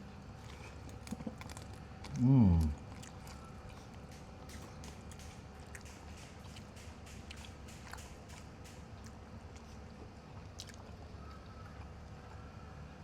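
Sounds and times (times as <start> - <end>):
person chewing crunchy food: 0.3 - 11.0.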